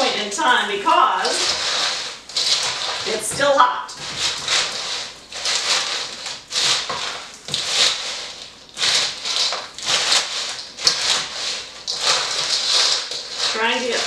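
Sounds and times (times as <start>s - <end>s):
wooden spoon stirring popcorn in bowl: 0.0s - 14.0s.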